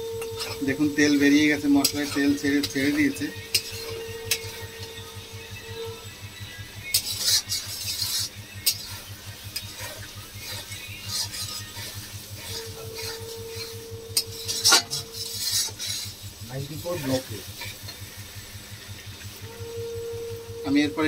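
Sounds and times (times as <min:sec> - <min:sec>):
faint sizzle of frying: 0:00.0 - 0:21.0
metal spatula scraping pan: 0:00.1 - 0:06.1, 0:06.8 - 0:18.0.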